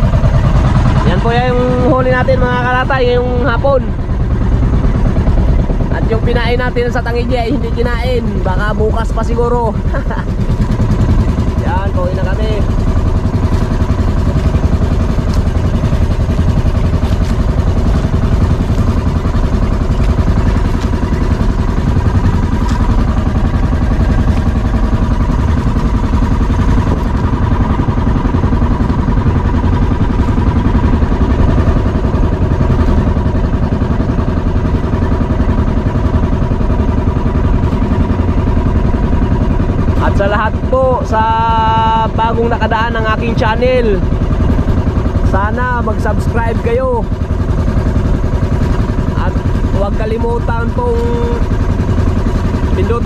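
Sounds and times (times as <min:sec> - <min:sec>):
boat motor droning: 0:00.0 - 0:53.0.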